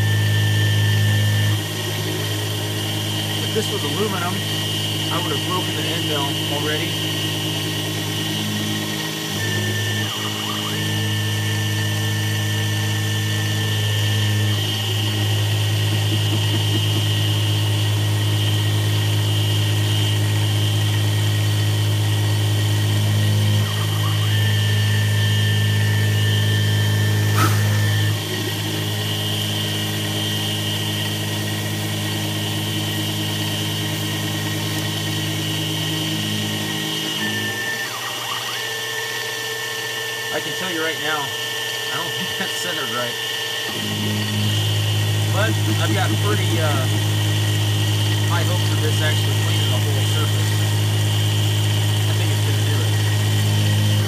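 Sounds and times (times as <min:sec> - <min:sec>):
milling machine motor hum and whine: 0:00.0 - 0:54.0.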